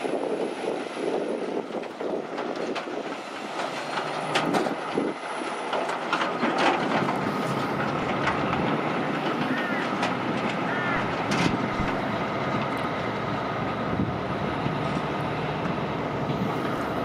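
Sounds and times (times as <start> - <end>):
heavy truck passing: 0.0 - 17.0
trailers rattling and clanking: 0.0 - 17.0.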